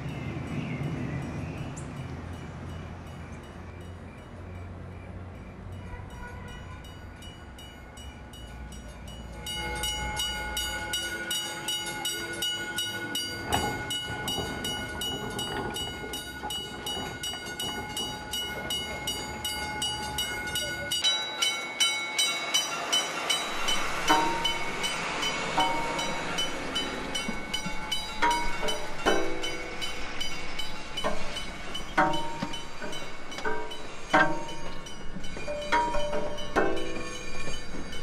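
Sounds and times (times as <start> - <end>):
approaching train: 0.0 - 38.0
level crossing warning bell ringing: 2.0 - 38.0.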